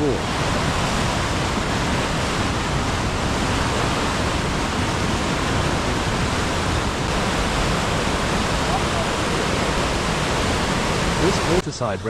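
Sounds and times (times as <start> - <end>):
whitewater rapids rushing: 0.0 - 11.9.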